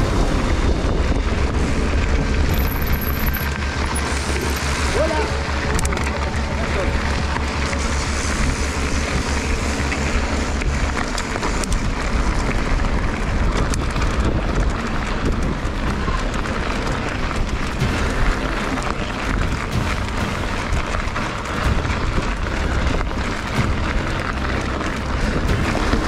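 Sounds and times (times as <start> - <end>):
bike tyres rattling on gravel: 0.0 - 26.0
wind buffeting microphone: 0.0 - 26.0.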